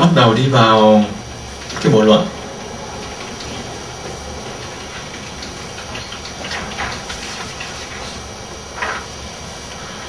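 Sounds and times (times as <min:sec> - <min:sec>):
recording hiss: 0:00.0 - 0:10.0.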